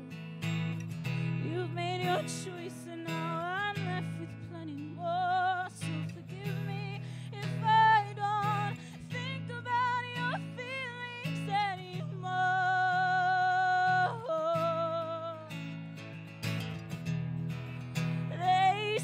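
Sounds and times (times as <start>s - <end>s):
woman singing: 0.0s - 16.0s, 18.0s - 19.0s
strummed acoustic guitar: 0.0s - 19.0s.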